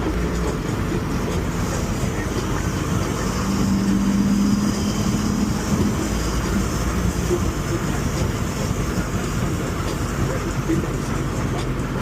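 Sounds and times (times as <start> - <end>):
steady low hum: 0.0 - 12.0
tyre noise on wet road: 0.0 - 12.0.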